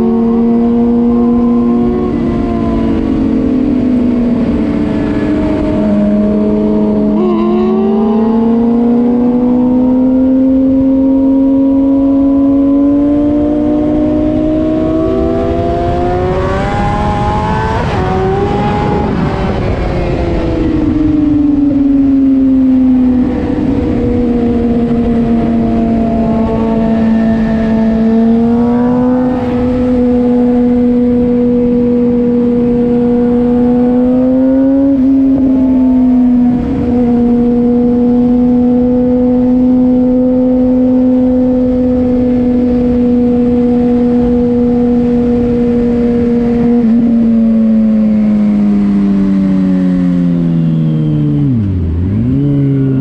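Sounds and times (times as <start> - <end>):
motorcycle engine cruising: 0.0 - 53.0.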